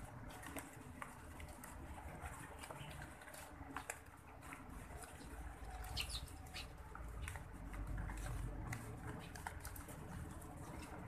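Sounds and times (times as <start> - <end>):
birds pecking on concrete: 0.0 - 11.0.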